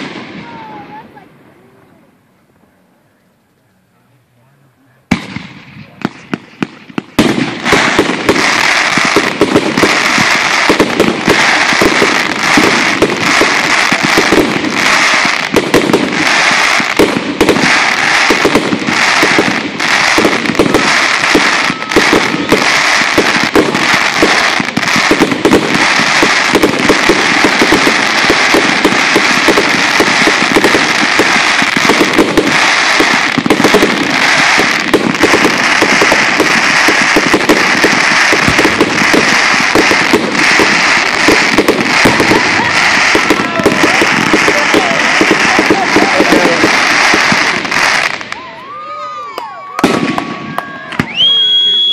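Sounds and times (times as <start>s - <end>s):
fireworks bangs and crackles: 0.0s - 2.7s, 5.0s - 51.9s.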